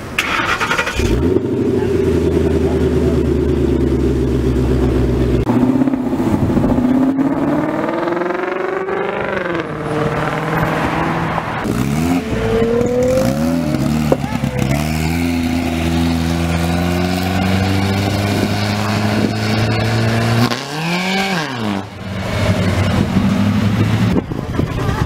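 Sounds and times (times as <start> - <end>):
second car engine revving up: 0.2 - 25.0
car exhaust idling and accelerating: 1.0 - 25.0.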